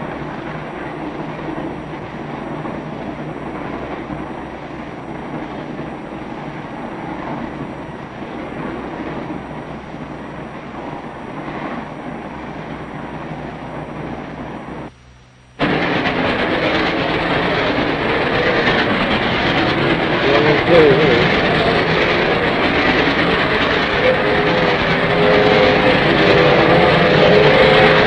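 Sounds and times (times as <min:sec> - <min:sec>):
steam train rumbling and rattling: 0:00.0 - 0:14.9, 0:15.6 - 0:28.0.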